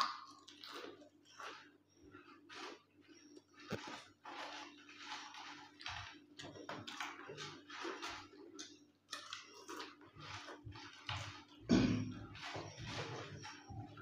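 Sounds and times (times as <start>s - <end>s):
potato chips crunching: 0.0s - 14.0s.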